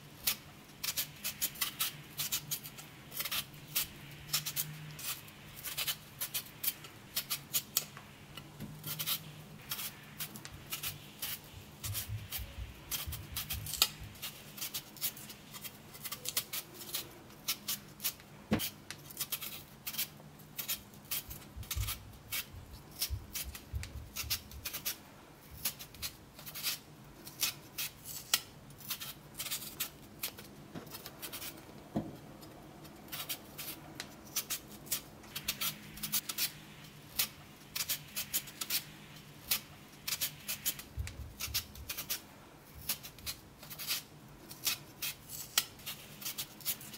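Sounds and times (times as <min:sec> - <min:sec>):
blade scraping potato: 0:00.2 - 0:07.9, 0:08.8 - 0:31.6, 0:33.1 - 0:46.9.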